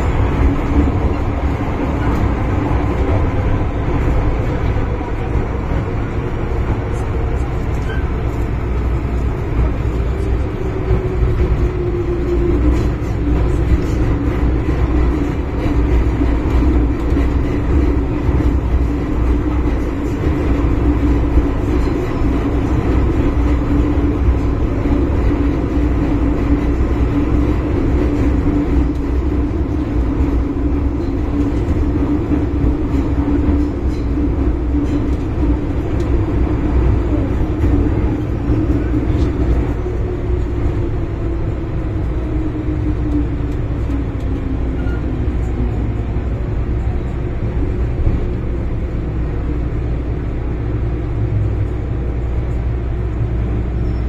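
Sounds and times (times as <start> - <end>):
wheel-on-rail rumble: 0.0 - 54.0.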